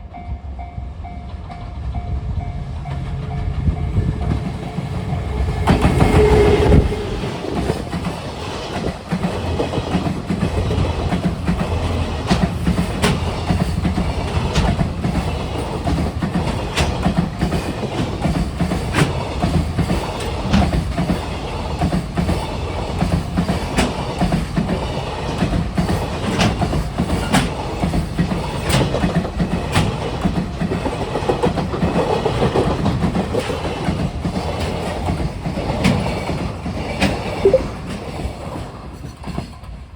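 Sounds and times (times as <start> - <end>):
freight train rumbling: 0.0 - 39.9
wheels clacking over rail joints: 2.8 - 39.8.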